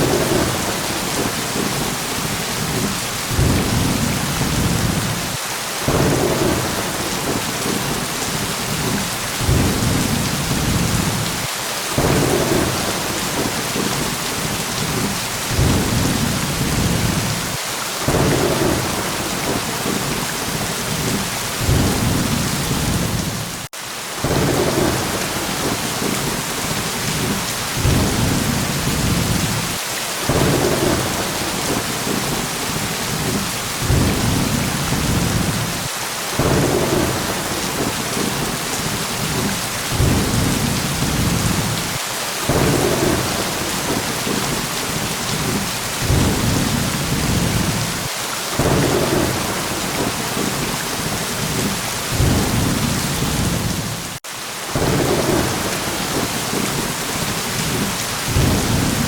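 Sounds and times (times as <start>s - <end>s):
low thunder rumbling: 0.0s - 54.2s, 54.8s - 59.0s
heavy rain: 0.0s - 59.0s.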